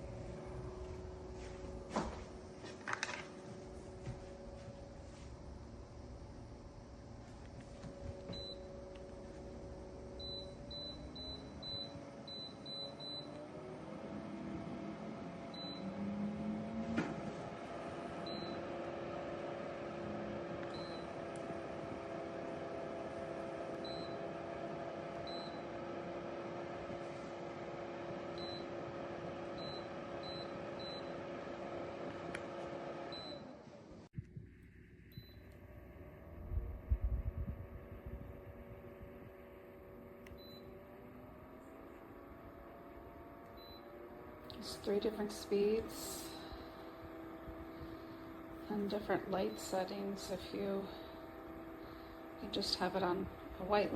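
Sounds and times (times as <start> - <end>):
low fan hum: 0.0 - 53.9.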